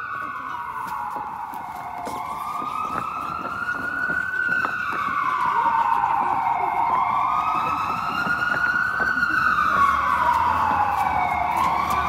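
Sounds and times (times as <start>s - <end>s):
wailing siren: 0.0s - 12.0s.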